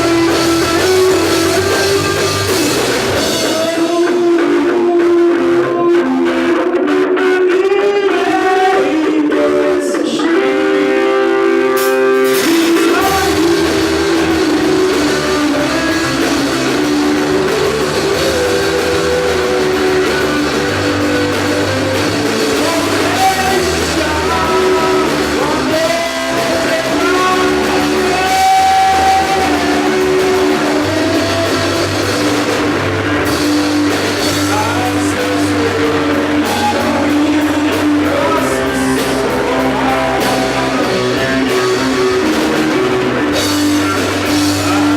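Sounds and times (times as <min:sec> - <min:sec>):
person singing: 0:00.0 - 0:44.9
rock band playing live: 0:00.0 - 0:44.9.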